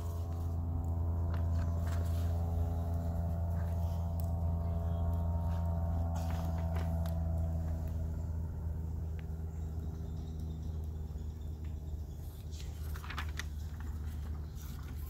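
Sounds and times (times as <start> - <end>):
campfire crackling: 0.0 - 15.0
steady low hum: 0.0 - 15.0.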